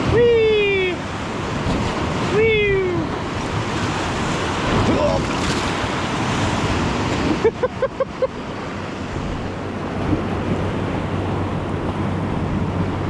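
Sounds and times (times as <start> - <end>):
wind on microphone: 0.0 - 7.6, 8.6 - 13.0
whitewater rushing: 0.0 - 13.0.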